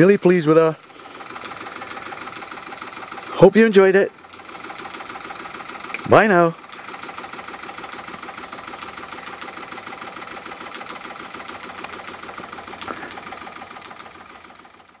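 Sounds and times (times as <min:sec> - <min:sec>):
toy steam engine running: 0:00.0 - 0:15.0.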